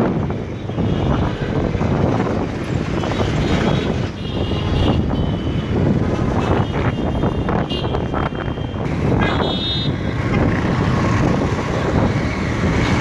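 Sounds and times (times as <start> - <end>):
motorcycle running: 0.0 - 13.0
road traffic: 0.0 - 13.0
wind buffeting microphone: 0.0 - 13.0.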